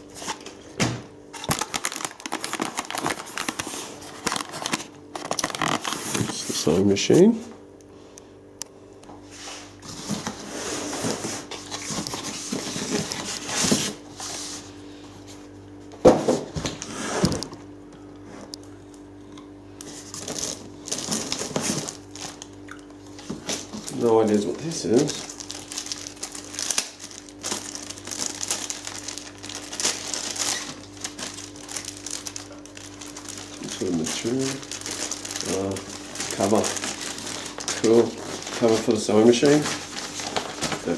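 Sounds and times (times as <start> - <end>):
packaging rustling and scraping: 0.0 - 0.6, 1.3 - 7.4, 9.3 - 15.5, 19.8 - 22.5, 23.1 - 40.9
faint steady hum: 0.0 - 40.9.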